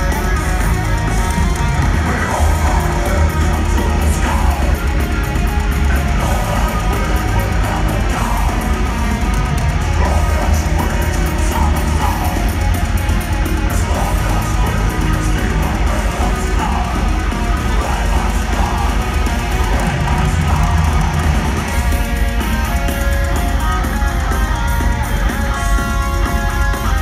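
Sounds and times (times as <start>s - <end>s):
distorted electric guitars: 0.0s - 27.0s
drums: 0.0s - 27.0s
metal band playing live: 0.0s - 27.0s.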